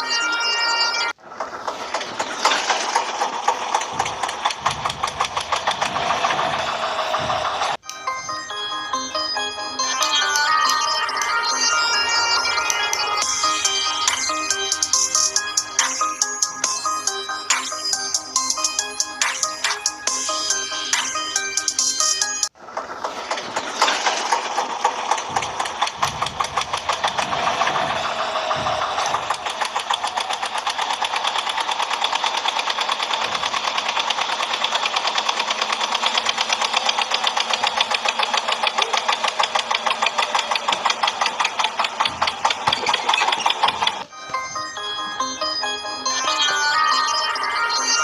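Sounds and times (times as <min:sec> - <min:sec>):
toy tractor engine sound effect: 0:00.0 - 0:48.0.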